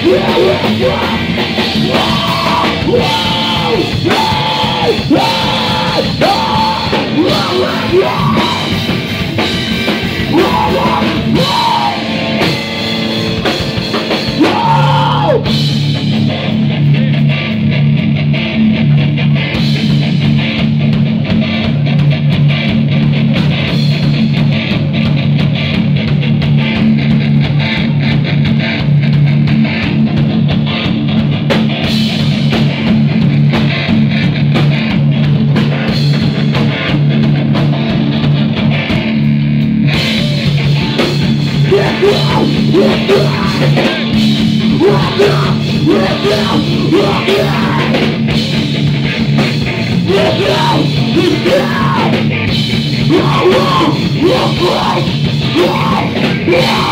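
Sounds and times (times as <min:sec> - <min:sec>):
drum kit: 0:00.0 - 0:56.9
electric guitar: 0:00.0 - 0:56.9.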